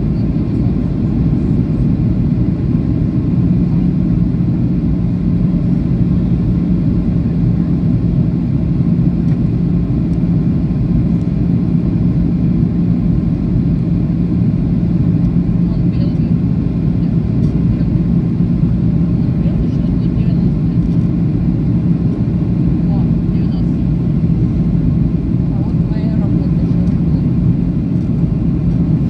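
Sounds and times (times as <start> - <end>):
airplane cabin engine rush: 0.0 - 29.0
steady low hum: 0.0 - 29.0.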